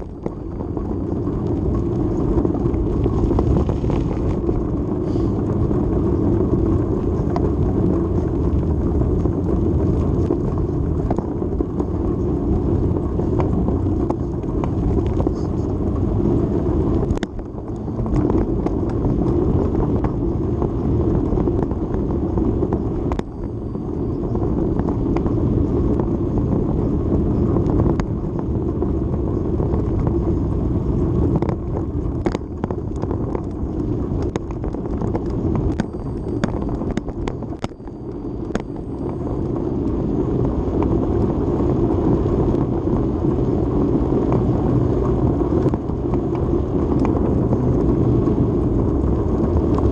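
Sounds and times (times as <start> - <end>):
tyre rumble on pavement: 0.0 - 49.9
wind rushing on microphone: 0.0 - 49.9.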